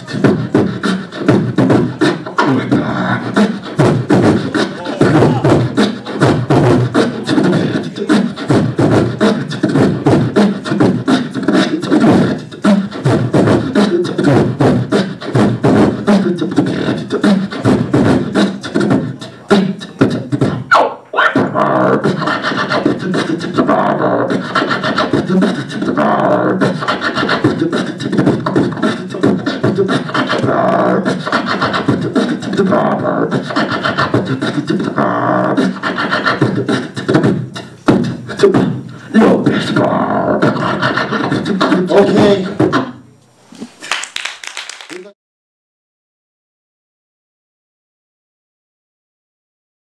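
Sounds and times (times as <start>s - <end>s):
vocal beatbox beat: 0.0s - 45.2s.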